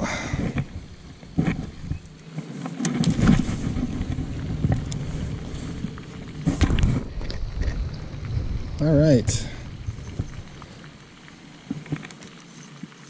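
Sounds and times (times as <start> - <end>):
wind buffeting microphone: 0.0 - 2.2, 3.0 - 11.9
gear knocks and clicks: 0.4 - 13.0.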